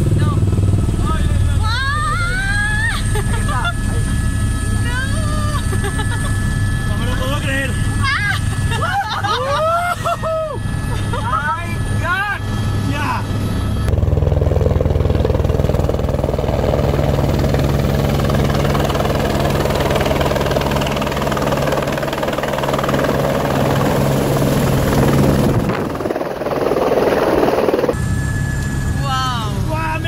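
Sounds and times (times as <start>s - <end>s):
helicopter rotor and turbine: 0.0s - 30.0s.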